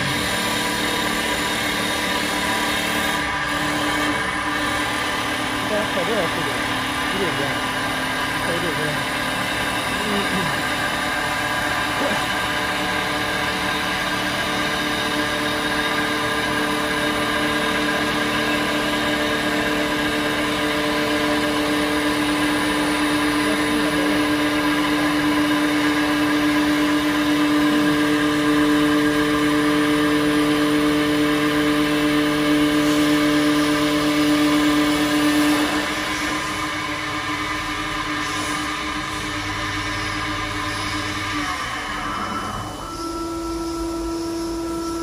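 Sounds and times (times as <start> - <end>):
hiss of wood cutting: 0.0 - 45.0
lathe whine: 0.0 - 45.0.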